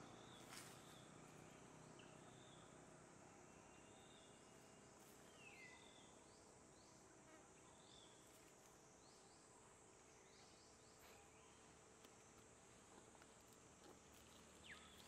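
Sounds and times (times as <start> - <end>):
insect hum: 0.0 - 15.0.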